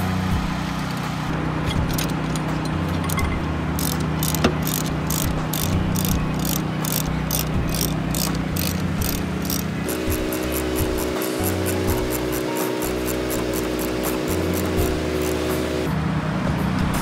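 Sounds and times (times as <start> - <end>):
steady low hum: 0.0 - 16.0
ratchet handle clicking: 1.7 - 15.6.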